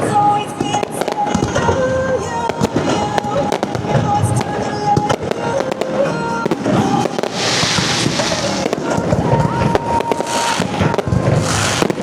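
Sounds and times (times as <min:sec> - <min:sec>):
fireworks bangs: 0:00.0 - 0:12.0
hissing crackling firework sprays: 0:00.0 - 0:12.0
music: 0:00.0 - 0:12.0.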